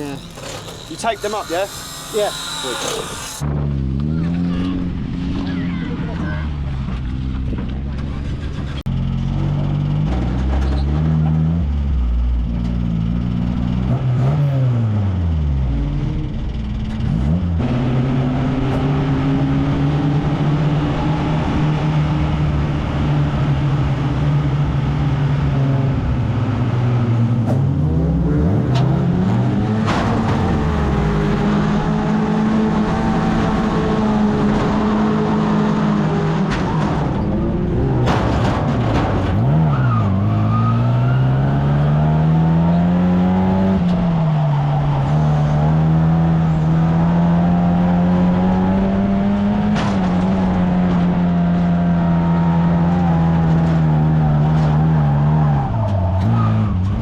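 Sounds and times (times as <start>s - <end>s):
stockcar engine racing: 0.0s - 57.0s.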